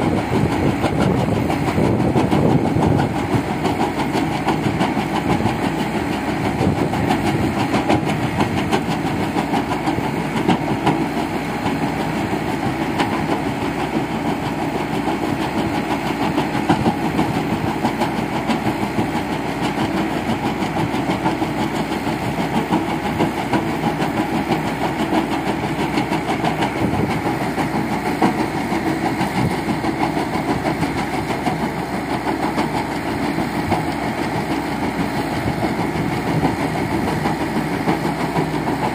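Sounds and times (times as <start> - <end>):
diesel engine under load: 0.0 - 38.9.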